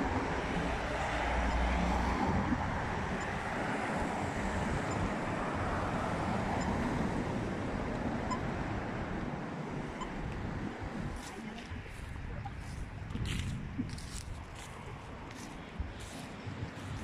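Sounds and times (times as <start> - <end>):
cars driving past: 0.0 - 17.0
hum of traffic: 0.0 - 17.0
wind on microphone: 0.0 - 17.0.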